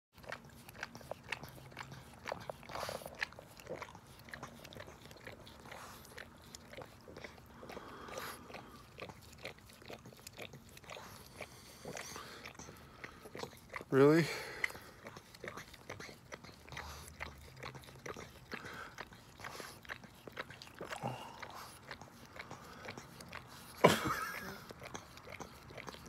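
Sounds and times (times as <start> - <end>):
dog licking wet clicks: 0.2 - 26.0.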